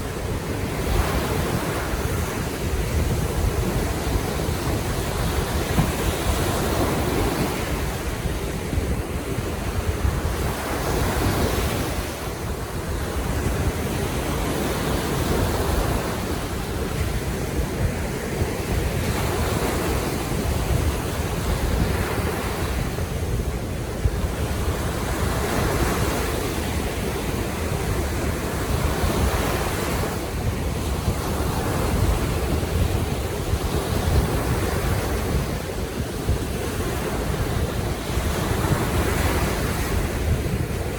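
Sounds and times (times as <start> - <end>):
waves washing ashore: 0.0 - 40.9
wind rumble on microphone: 0.0 - 40.9.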